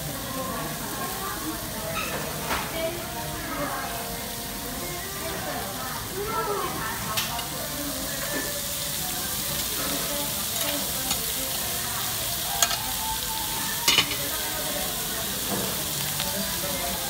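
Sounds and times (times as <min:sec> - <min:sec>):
meat sizzling on grill: 0:00.0 - 0:17.0.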